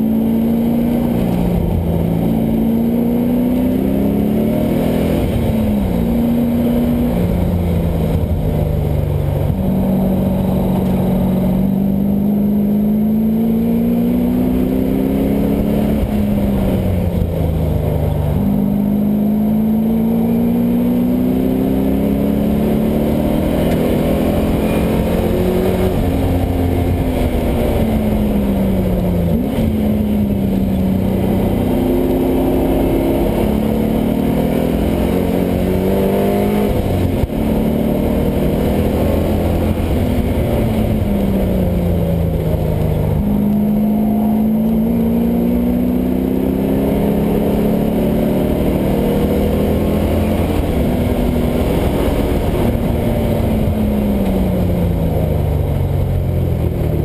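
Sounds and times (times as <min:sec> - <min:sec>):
car engine revving hard: 0:00.0 - 0:55.4.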